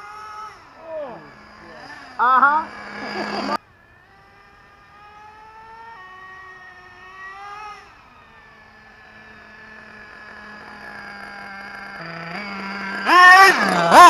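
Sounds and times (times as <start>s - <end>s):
nitro rc engine running: 0.0s - 14.0s.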